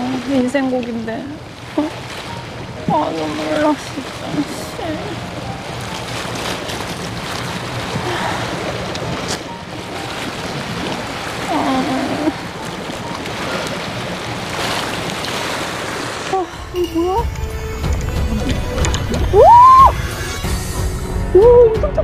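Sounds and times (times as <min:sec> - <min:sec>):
sea surf: 0:00.0 - 0:20.9.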